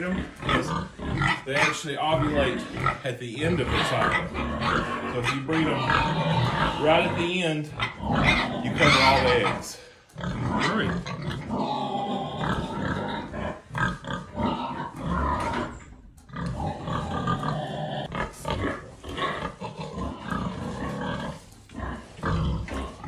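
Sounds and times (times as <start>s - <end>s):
pigs grunting: 0.0s - 23.0s.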